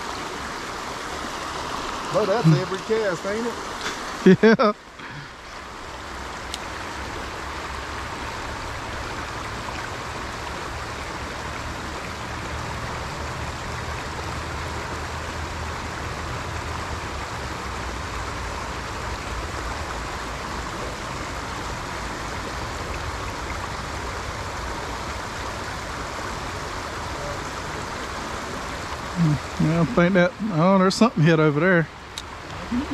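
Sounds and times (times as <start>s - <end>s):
flowing water rushing: 0.0s - 32.9s.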